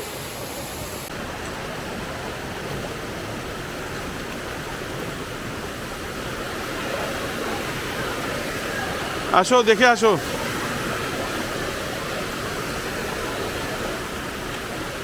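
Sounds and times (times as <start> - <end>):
fast-flowing water rushing: 0.0 - 15.0.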